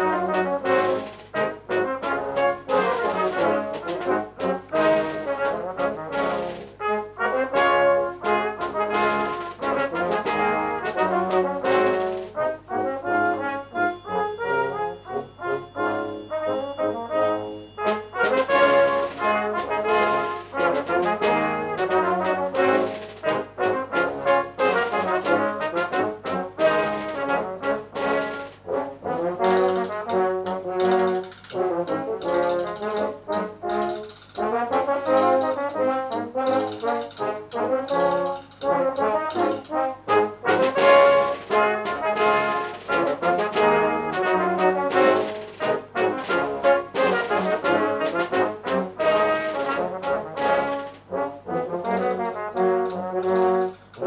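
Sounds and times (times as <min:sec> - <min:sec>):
brass ensemble playing: 0:00.0 - 0:54.0
percussion steady beat: 0:00.0 - 0:54.0.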